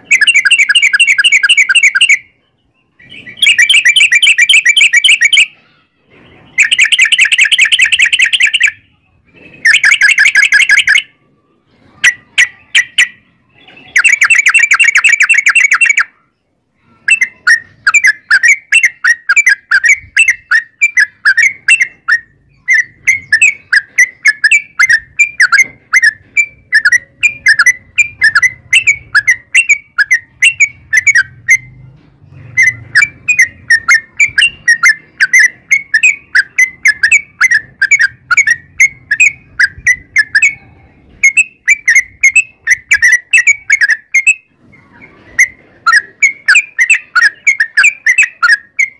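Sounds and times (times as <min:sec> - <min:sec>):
bird quick chirps: 0:00.0 - 0:48.9.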